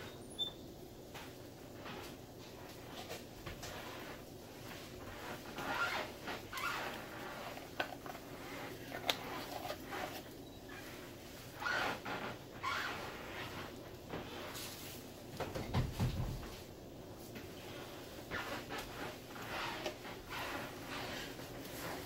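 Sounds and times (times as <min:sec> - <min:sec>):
scraping and rustling: 0:01.1 - 0:22.0.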